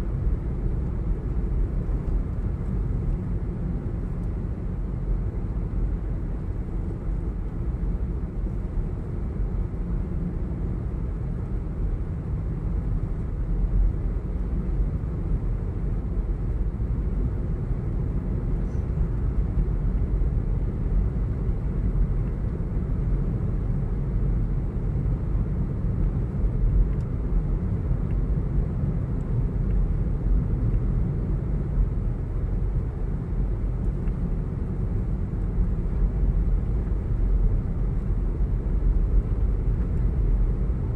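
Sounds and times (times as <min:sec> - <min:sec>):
vehicle road and engine rumble: 0:00.0 - 0:40.9.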